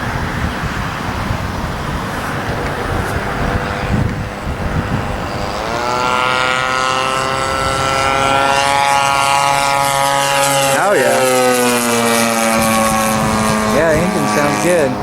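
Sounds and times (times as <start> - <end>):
two-stroke model plane engine: 0.0 - 15.0.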